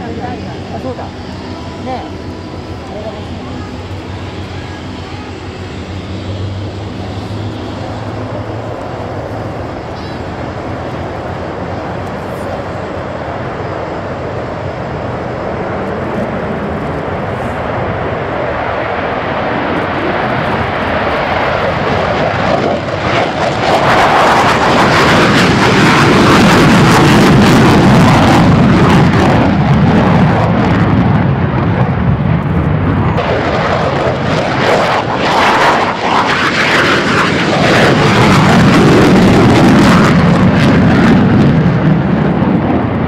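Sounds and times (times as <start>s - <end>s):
fighter jet afterburner roar: 0.0s - 43.0s.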